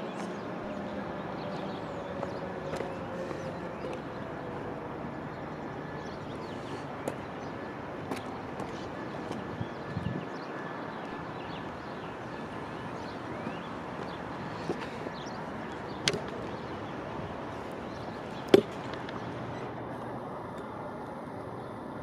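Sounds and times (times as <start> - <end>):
distant traffic: 0.0 - 22.0.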